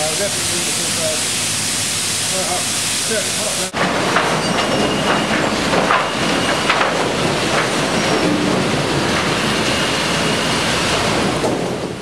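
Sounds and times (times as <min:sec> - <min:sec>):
sawmill machinery clattering: 0:00.0 - 0:12.0.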